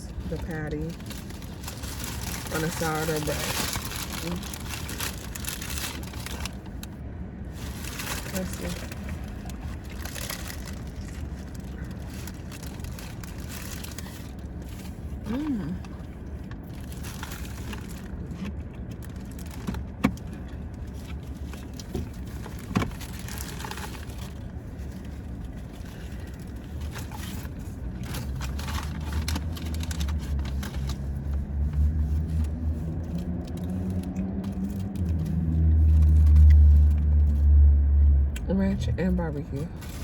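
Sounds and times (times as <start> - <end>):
food packaging rustling: 0.0 - 15.1, 16.6 - 37.4, 39.8 - 40.0
car cabin rumble: 0.0 - 37.5.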